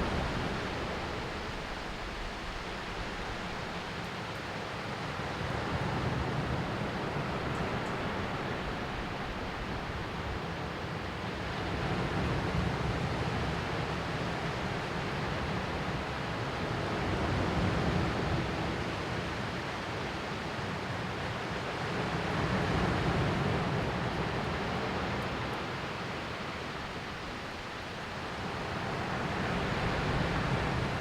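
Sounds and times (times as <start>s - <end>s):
ocean waves washing on shore: 0.0s - 31.0s.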